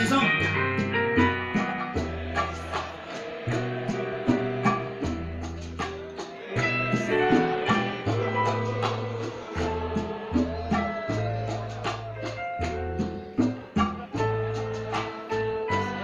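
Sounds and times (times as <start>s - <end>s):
drum hits: 0.0s - 15.9s
bass notes: 0.0s - 16.0s
guitar: 0.0s - 16.0s
live band playing: 0.0s - 16.0s.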